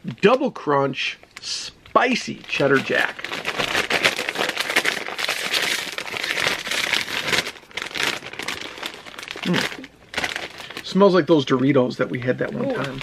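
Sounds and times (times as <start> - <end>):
plastic chip bag crinkling: 1.4 - 13.0.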